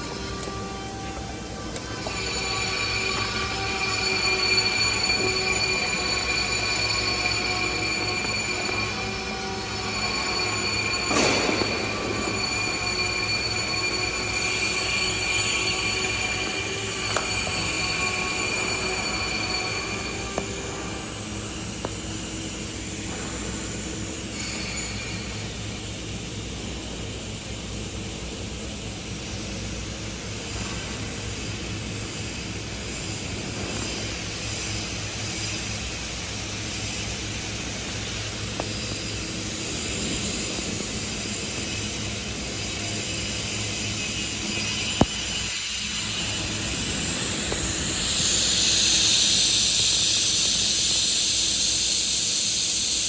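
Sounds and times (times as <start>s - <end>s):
hiss: 0.0s - 53.0s
machinery hum: 0.0s - 53.0s.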